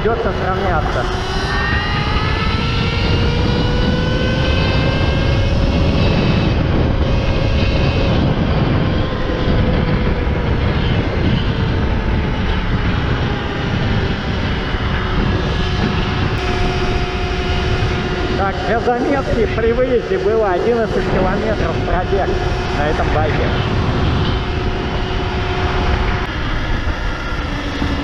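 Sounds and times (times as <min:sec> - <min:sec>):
electric motor whine: 0:00.0 - 0:28.0
wind rumble on microphone: 0:00.0 - 0:28.0.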